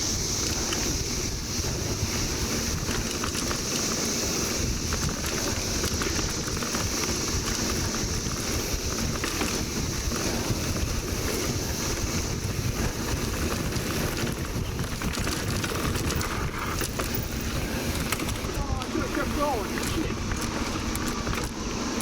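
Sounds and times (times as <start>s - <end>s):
bike ride rushing noise: 0.0s - 22.0s
cicada chorus drone: 0.0s - 22.0s
wind rumbling on microphone: 0.0s - 22.0s.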